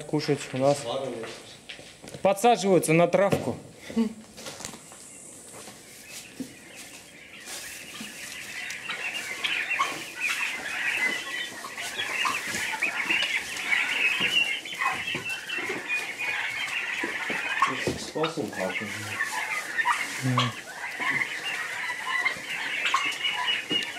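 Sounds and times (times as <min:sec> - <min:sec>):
young turkeys peeping: 0:00.0 - 0:23.9.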